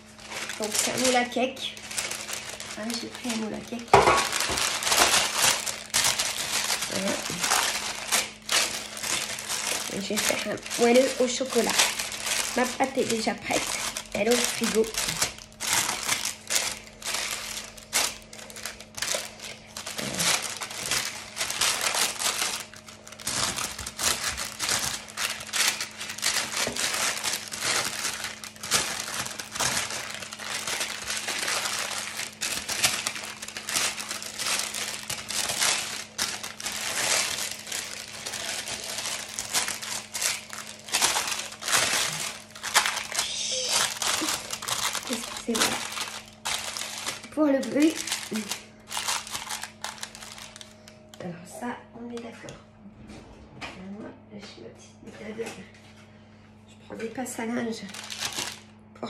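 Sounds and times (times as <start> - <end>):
paper crinkling: 0.0 - 51.2, 57.7 - 58.8.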